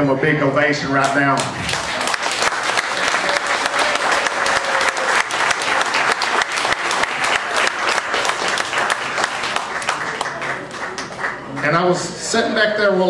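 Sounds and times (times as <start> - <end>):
audience applauding: 1.0 - 11.9.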